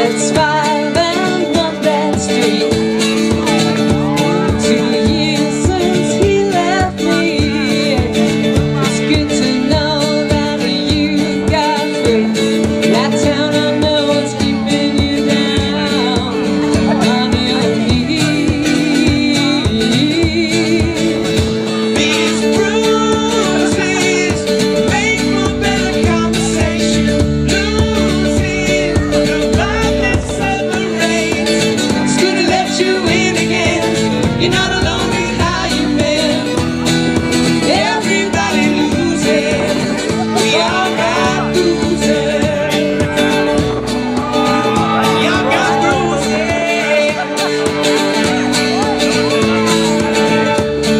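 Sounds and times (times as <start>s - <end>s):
people singing a duet: 0.0s - 50.4s
guitar accompaniment: 0.0s - 50.9s.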